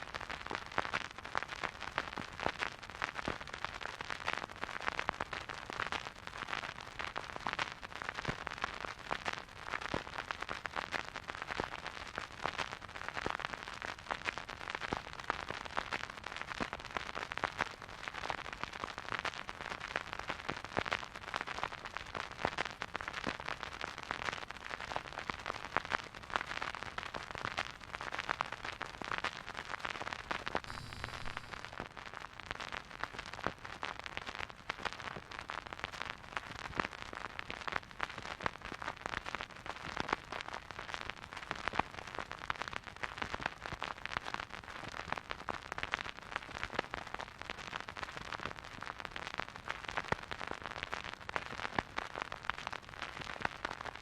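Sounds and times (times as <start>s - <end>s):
vinyl record crackle and pops: 0.0s - 54.0s.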